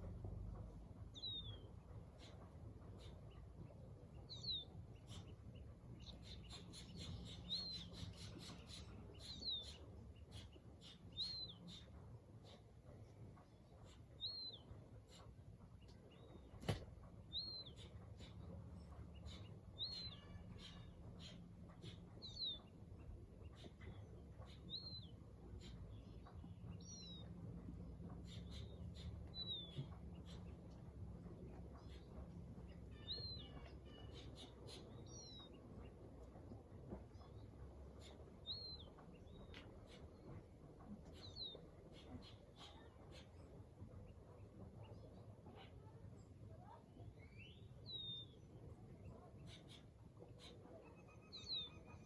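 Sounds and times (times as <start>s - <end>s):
low ambient hum: 0.0s - 52.0s
bird chirping: 1.1s - 36.4s, 37.1s - 46.0s, 46.6s - 52.0s.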